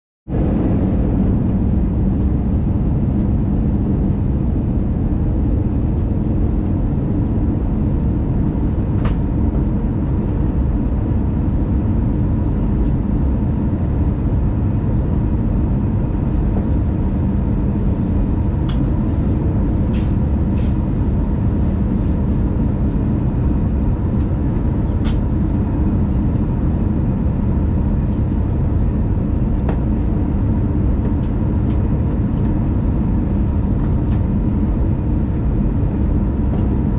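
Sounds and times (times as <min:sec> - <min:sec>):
aircraft cabin engine rumble: 0:00.3 - 0:36.9.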